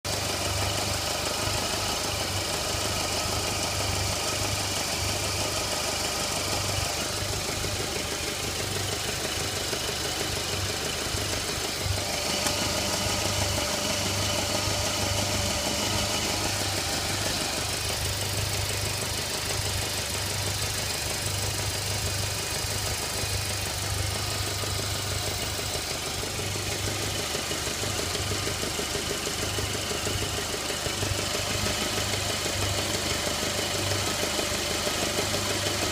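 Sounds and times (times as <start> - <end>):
car engine idling with knock: 0.1 - 35.9.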